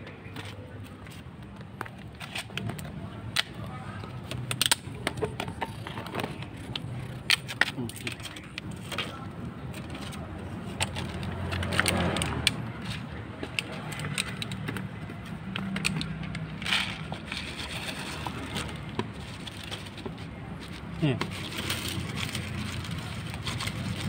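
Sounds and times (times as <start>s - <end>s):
cats crunching dry food: 4.5s - 24.0s.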